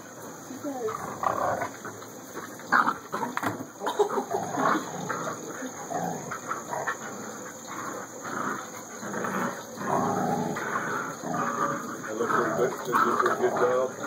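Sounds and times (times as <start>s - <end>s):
dogs growling in play: 0.8s - 14.0s.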